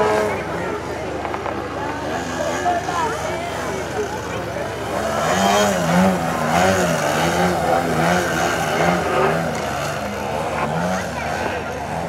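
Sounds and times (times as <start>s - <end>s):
model plane engine and propeller: 0.0s - 12.0s.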